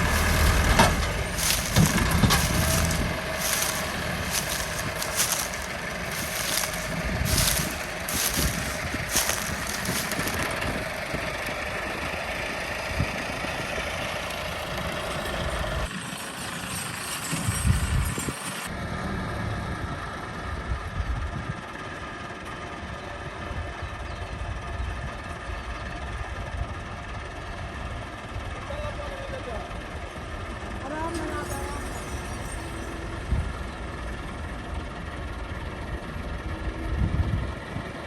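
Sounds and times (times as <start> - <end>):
tractor engine running: 0.0 - 23.4, 29.7 - 38.0.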